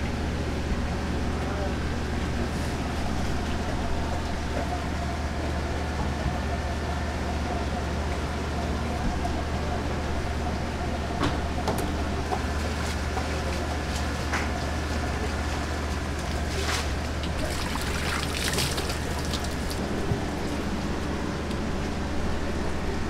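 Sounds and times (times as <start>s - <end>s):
fish market background noise: 0.0s - 23.0s.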